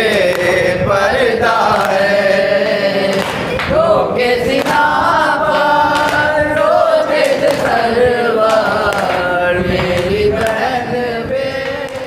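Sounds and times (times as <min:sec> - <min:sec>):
man singing over a microphone: 0:00.0 - 0:12.0
men chanting together: 0:00.0 - 0:12.0.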